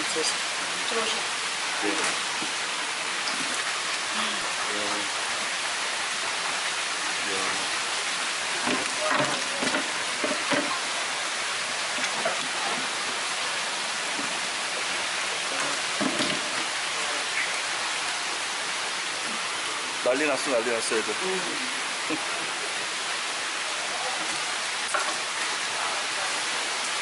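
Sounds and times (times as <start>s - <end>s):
running water hiss: 0.0s - 27.0s.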